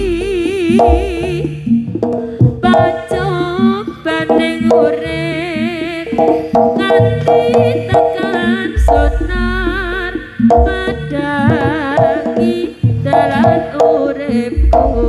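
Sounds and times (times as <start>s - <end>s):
gamelan music: 0.0s - 15.0s
hand drum strokes: 0.0s - 15.0s.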